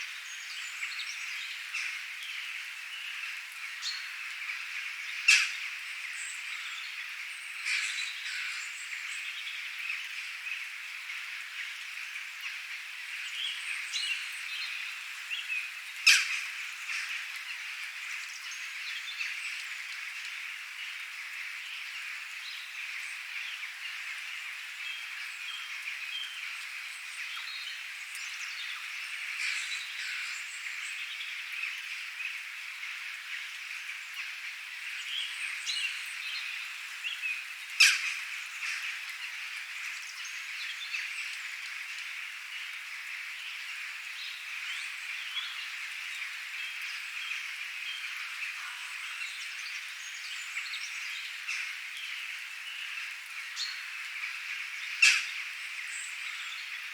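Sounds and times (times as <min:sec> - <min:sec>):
rain hiss: 0:00.0 - 0:56.9.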